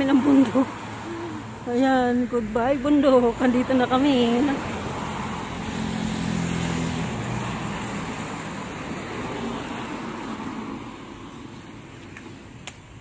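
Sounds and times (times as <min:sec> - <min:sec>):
vehicle passing by: 0:00.0 - 0:11.8.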